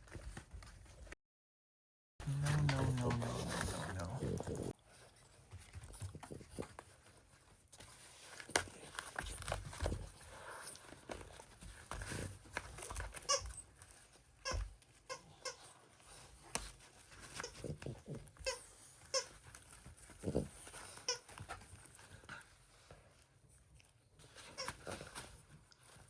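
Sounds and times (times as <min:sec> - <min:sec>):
dogs chewing toy: 0:02.2 - 0:26.0.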